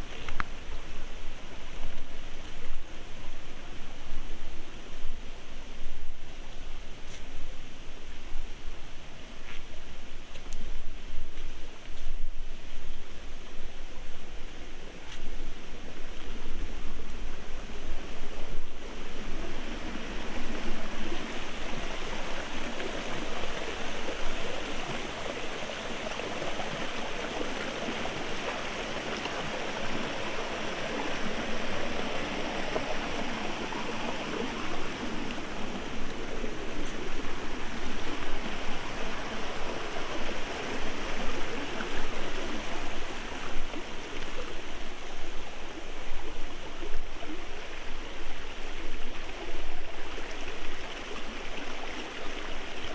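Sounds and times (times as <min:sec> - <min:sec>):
stream flowing over stones: 0:00.0 - 0:52.9.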